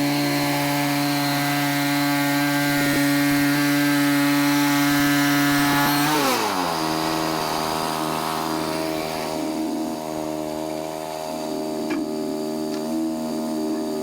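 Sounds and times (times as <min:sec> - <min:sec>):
sawmill gas engine: 0:00.0 - 0:14.0.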